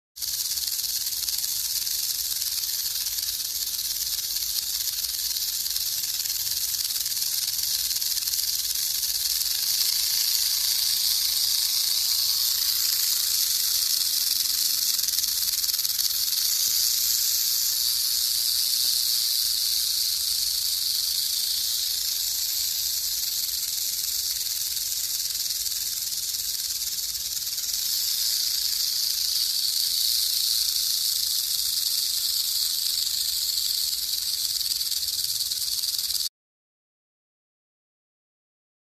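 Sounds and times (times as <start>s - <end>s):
rattlesnake tail rattle buzzing: 0.2s - 36.3s.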